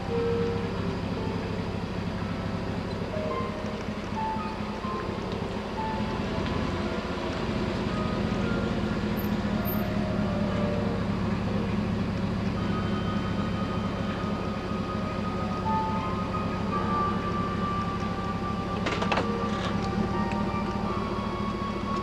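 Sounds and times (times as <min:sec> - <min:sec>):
steady low hum: 0:00.0 - 0:22.0
slow chime-like music: 0:02.5 - 0:11.8, 0:12.5 - 0:22.0.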